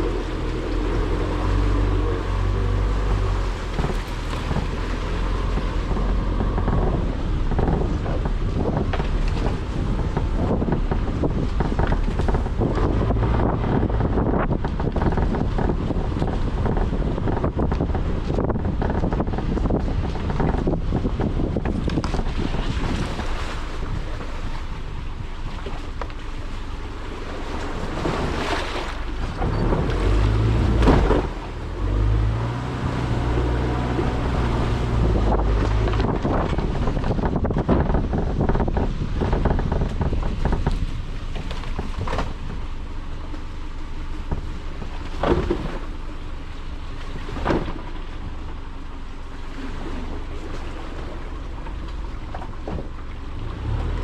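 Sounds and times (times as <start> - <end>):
wind buffeting microphone: 0.0 - 49.0
car driving low rumble: 0.0 - 54.0.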